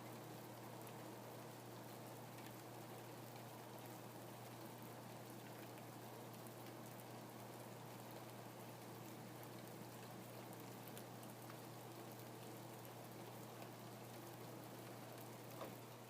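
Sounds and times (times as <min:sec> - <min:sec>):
faint rain falling: 0:00.0 - 0:16.0.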